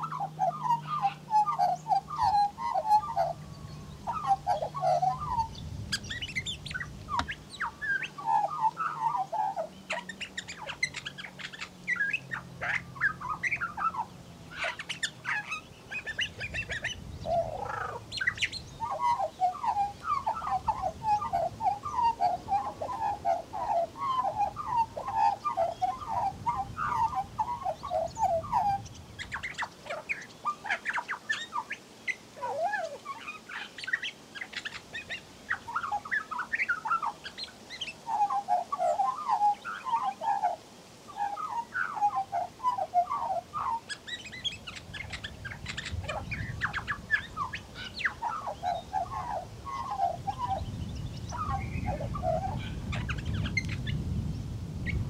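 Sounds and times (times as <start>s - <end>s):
magpie warbling song: 0.0s - 54.0s.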